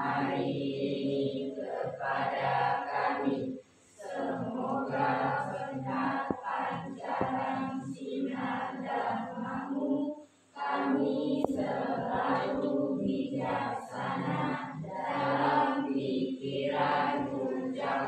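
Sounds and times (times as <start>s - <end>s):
children chanting a prayer: 0.0s - 18.0s.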